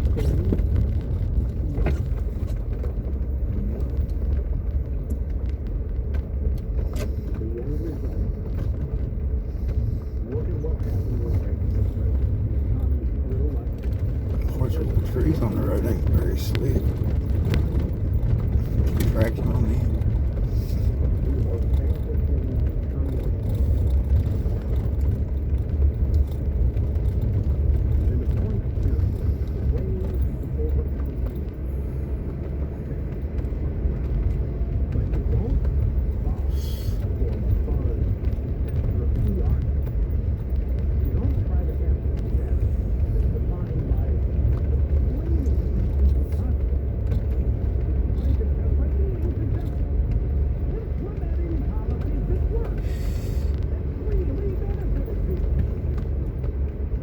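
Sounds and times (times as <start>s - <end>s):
vehicle engine and road rumble: 0.0s - 57.0s.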